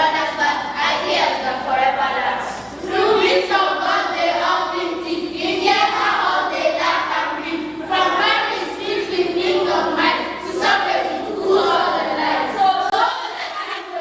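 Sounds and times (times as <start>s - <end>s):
children singing in unison: 0.0s - 14.0s.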